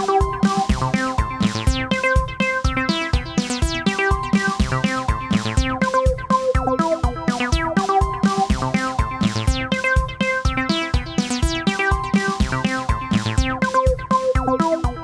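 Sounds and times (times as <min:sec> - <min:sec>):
drum machine beat: 0:00.0 - 0:15.0
synthesizer notes: 0:00.0 - 0:15.0.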